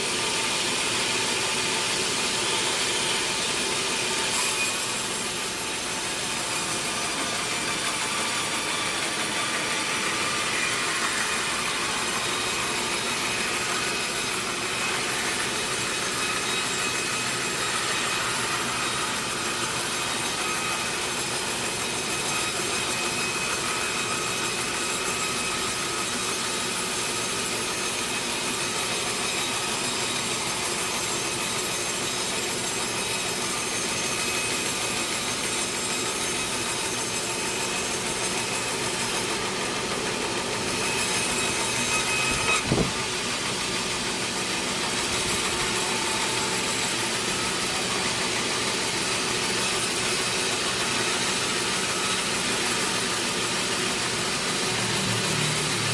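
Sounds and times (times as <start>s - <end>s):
saw cutting through log: 0.0s - 55.9s.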